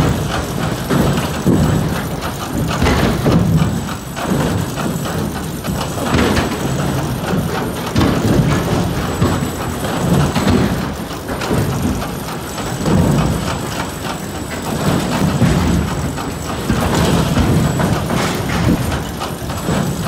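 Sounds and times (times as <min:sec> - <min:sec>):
heavy thuds and clatter: 0:00.0 - 0:20.0
log-processing machinery running: 0:00.0 - 0:20.0.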